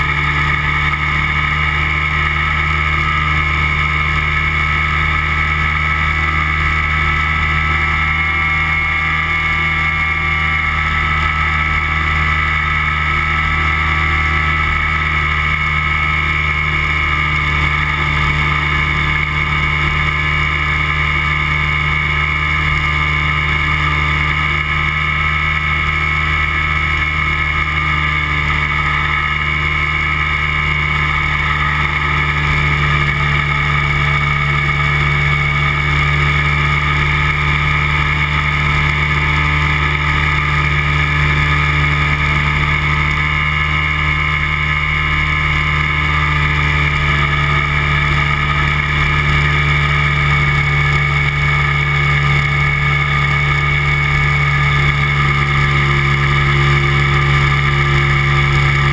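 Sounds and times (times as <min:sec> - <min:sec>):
engine and propeller droning: 0:00.0 - 0:58.9.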